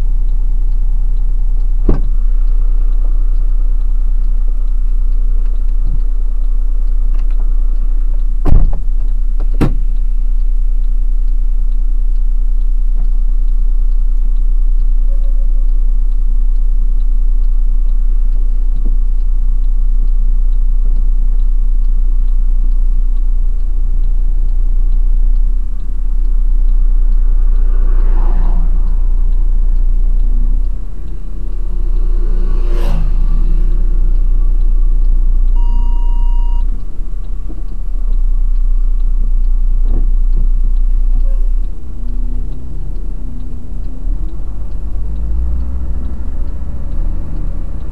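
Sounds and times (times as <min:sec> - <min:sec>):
road noise: 0:00.0 - 0:47.9
truck engine rumble: 0:00.0 - 0:47.9.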